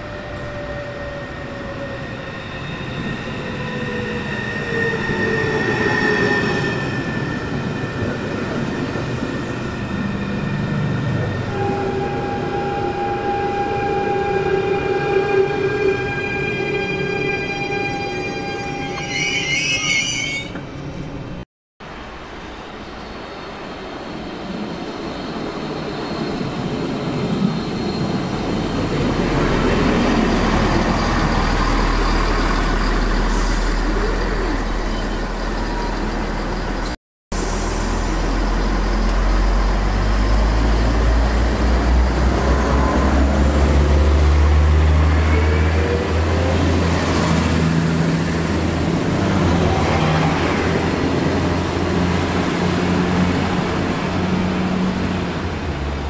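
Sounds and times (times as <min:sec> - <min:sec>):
diesel train engines droning: 0:00.0 - 0:21.4, 0:22.2 - 0:56.0
rail and wheel noise: 0:00.0 - 0:56.0.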